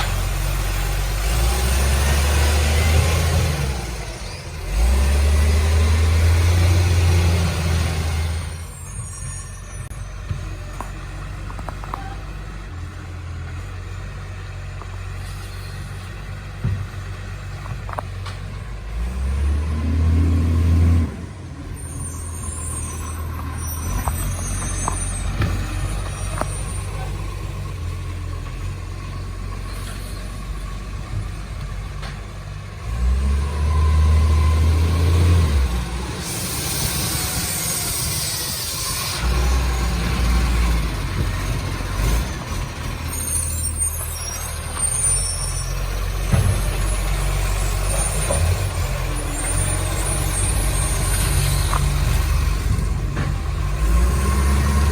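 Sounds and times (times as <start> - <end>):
garbage truck diesel engine: 0.0 - 54.9.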